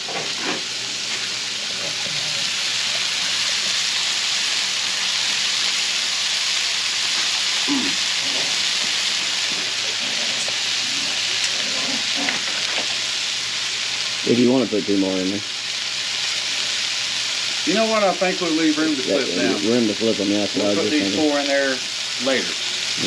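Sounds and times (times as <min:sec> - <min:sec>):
burgers sizzling in a skillet: 0:00.0 - 0:23.0.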